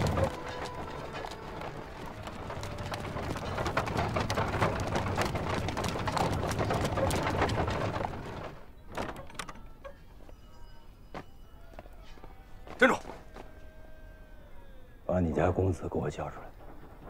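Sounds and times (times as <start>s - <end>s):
hooves and wheels clattering: 0.0s - 14.5s, 15.1s - 17.0s.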